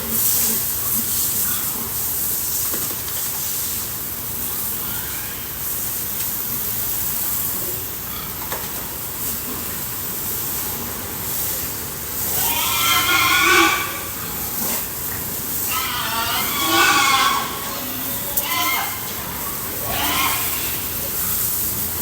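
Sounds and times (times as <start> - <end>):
water jet spraying: 0.0 - 22.0.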